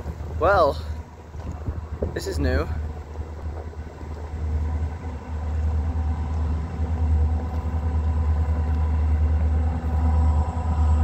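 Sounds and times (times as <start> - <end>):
diesel locomotive engines running: 0.0 - 11.0
wind buffeting microphone: 0.0 - 11.0.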